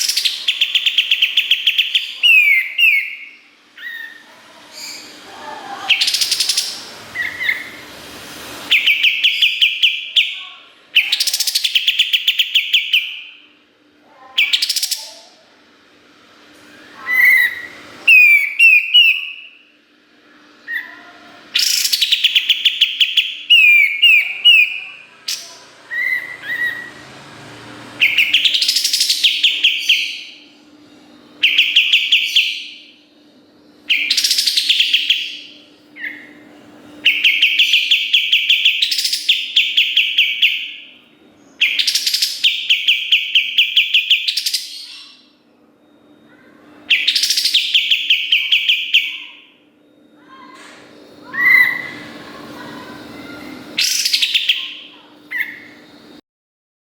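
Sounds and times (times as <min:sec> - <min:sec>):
faint steady hum: 0:00.0 - 0:56.2.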